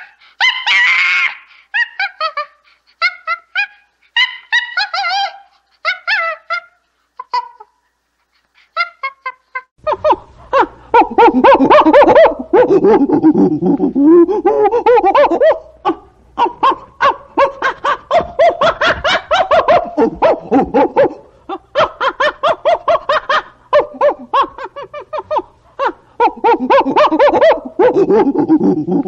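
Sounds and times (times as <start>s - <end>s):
chimpanzee hooting: 0.0s - 7.8s, 8.7s - 29.0s.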